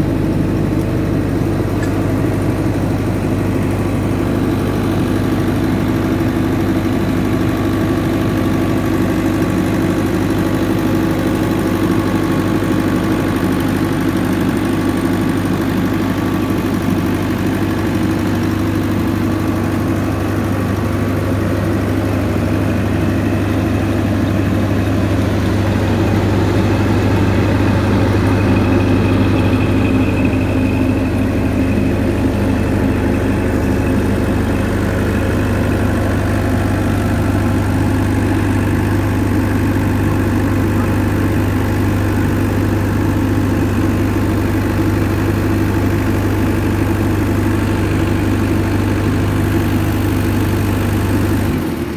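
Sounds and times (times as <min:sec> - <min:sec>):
diesel generator running: 0:00.0 - 0:51.9.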